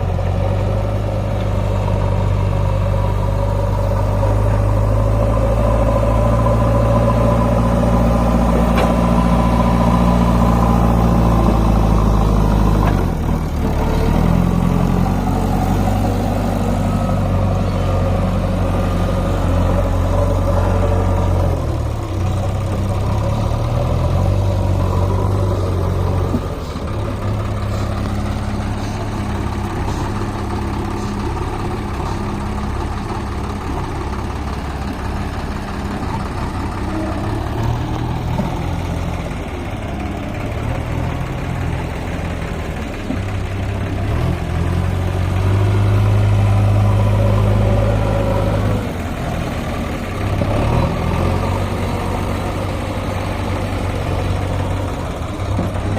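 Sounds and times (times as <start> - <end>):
diesel engine of backhoe loader: 0.0 - 55.9.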